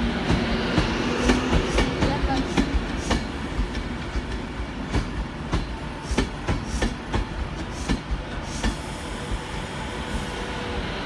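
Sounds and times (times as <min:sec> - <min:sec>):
train wheels clickety-clack: 0:00.0 - 0:09.6
steady train rumble: 0:00.0 - 0:11.0.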